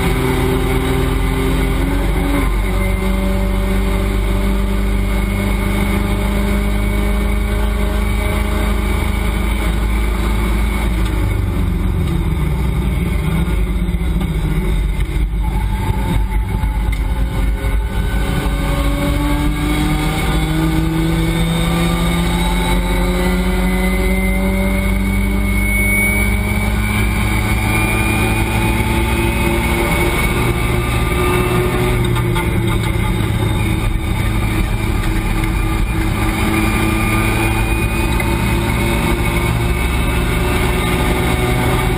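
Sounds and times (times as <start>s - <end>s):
race car engine accelerating: 0.0s - 41.9s.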